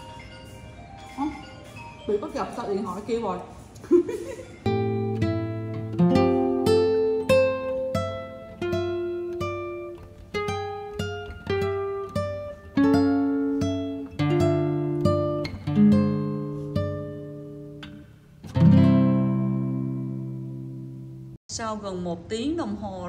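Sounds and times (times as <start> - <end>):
acoustic guitar melody: 0.0 - 3.6, 4.2 - 21.4.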